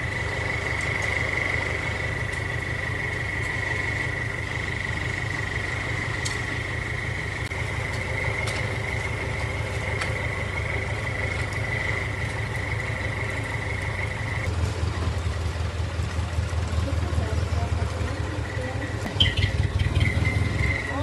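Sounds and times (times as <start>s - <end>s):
insect trill: 0.0s - 14.5s, 18.1s - 21.0s
truck engine idling: 0.0s - 21.0s.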